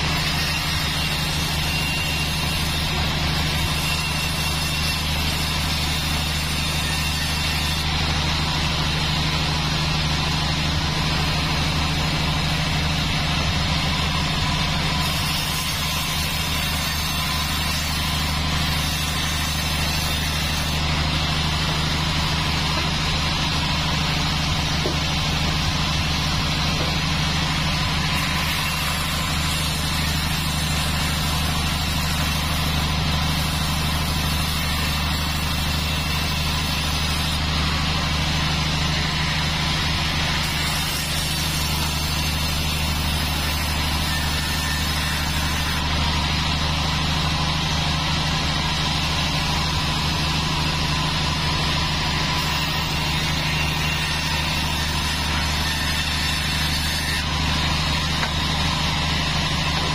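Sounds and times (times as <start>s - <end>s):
band saw sawing log: 0.0s - 59.9s.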